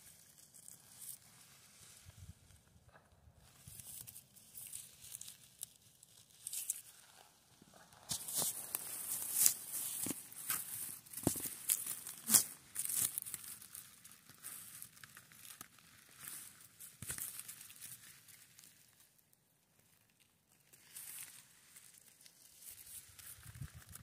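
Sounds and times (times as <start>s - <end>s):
hands rustling through dry grass: 0.0s - 2.6s, 3.4s - 18.9s, 20.6s - 24.0s.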